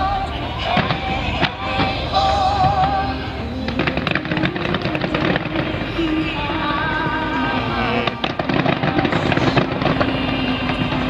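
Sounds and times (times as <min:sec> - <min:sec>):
fireworks bangs and crackles: 0:00.0 - 0:03.0, 0:03.6 - 0:11.0
music with wavering tone: 0:00.0 - 0:11.0.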